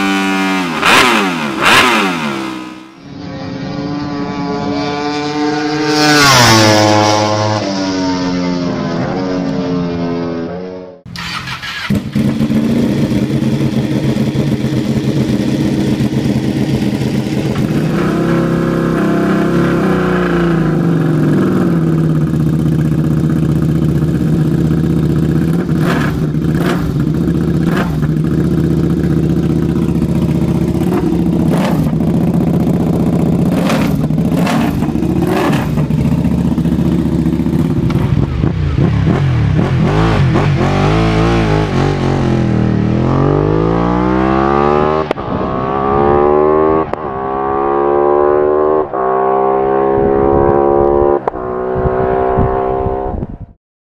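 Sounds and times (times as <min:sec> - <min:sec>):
motorcycle riding by: 0:00.0 - 0:53.2
motorcycle engine revving: 0:00.0 - 0:53.4.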